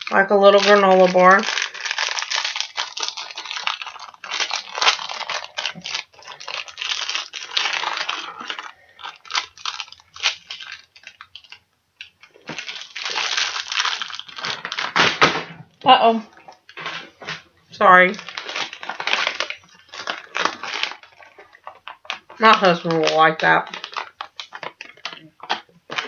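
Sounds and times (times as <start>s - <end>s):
plastic wrapper crinkling and tearing: 0.0s - 26.0s.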